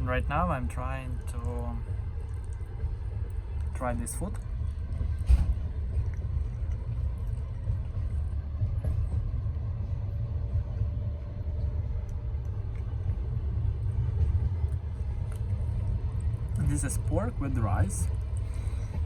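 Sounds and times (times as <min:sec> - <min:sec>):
train rumble from inside: 0:00.0 - 0:19.0.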